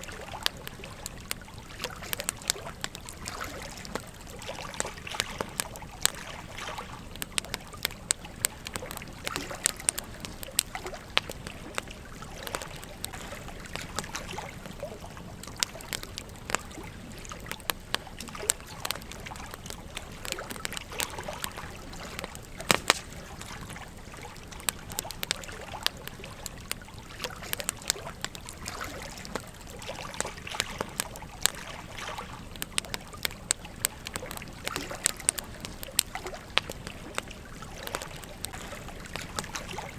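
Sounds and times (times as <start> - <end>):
campfire crackling and snapping: 0.0 - 39.9
gentle stream trickling: 0.0 - 39.9.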